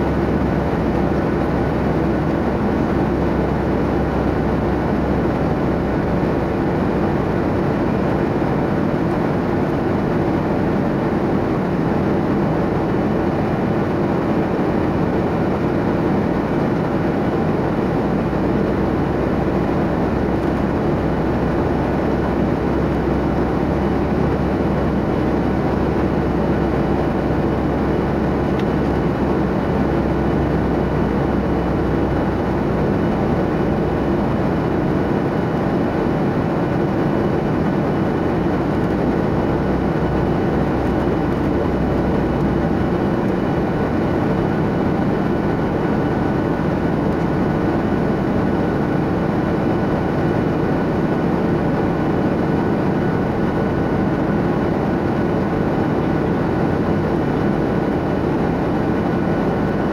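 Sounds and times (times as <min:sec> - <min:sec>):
airliner cabin noise: 0:00.0 - 0:59.9.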